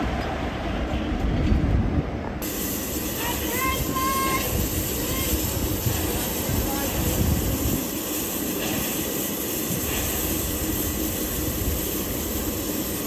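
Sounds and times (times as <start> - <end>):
passenger train rumble and hum: 0.0 - 13.0.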